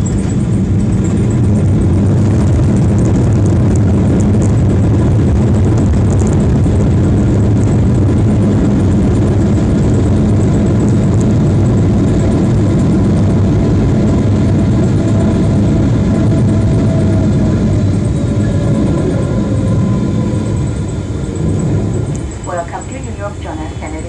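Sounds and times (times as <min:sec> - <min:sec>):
airplane engine rumble: 0:00.0 - 0:24.0
light cabin rattles: 0:00.0 - 0:24.0.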